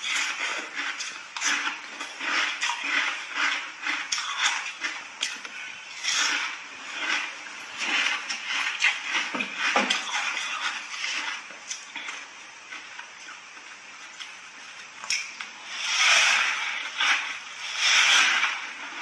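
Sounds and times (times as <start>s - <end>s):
crisp chewing crunches: 0.0s - 19.0s.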